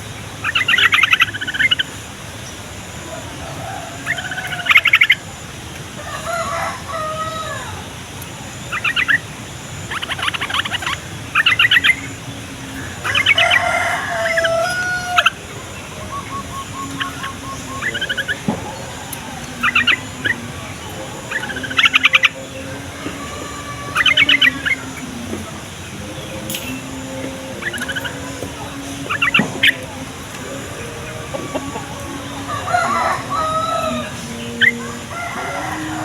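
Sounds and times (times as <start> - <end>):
bulbuls singing bubbly phrases: 0.0 - 36.0
rooster crowing: 2.9 - 8.0, 11.8 - 36.0.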